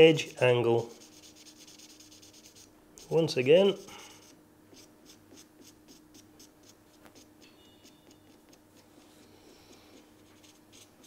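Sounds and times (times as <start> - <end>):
low steady hum: 0.0 - 11.0
marker pen strokes on metal: 0.2 - 11.0.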